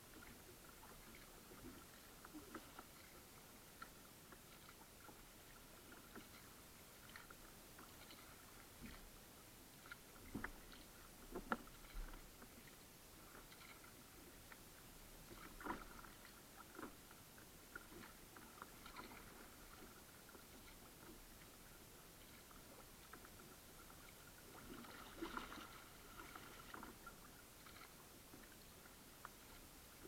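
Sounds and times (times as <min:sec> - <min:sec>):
paddle splashes and drips: 0:00.0 - 0:30.0
water against kayak hull: 0:00.0 - 0:30.0.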